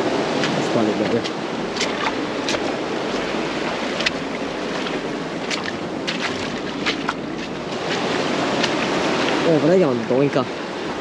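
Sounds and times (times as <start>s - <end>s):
surf on rocky shore: 0.0s - 11.0s.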